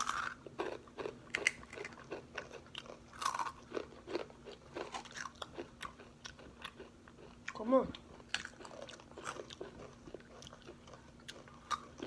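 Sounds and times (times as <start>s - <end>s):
crunching tortilla chips: 0.0s - 12.0s.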